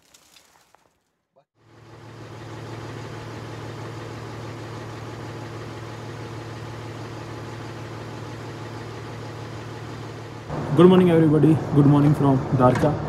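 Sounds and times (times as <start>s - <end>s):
truck engine idling: 1.6s - 13.0s.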